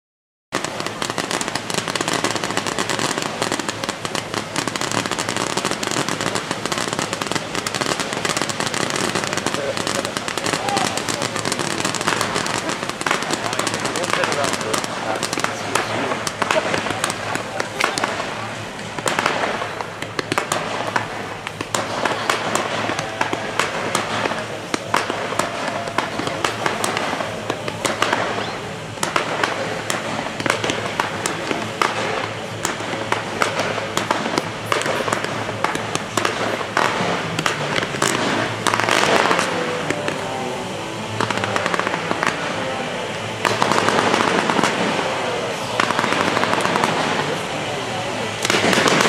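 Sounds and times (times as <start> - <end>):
fireworks crackling and popping: 0.5 - 49.0.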